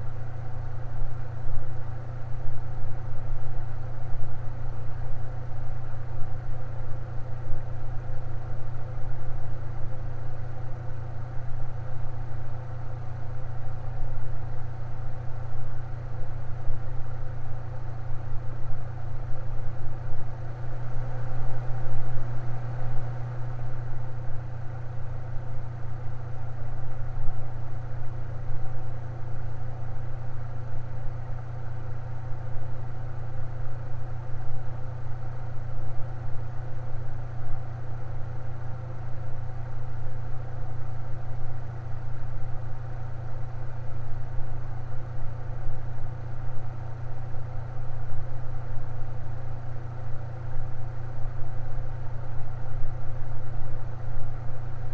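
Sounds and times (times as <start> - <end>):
electric fan humming: 0.0 - 54.9.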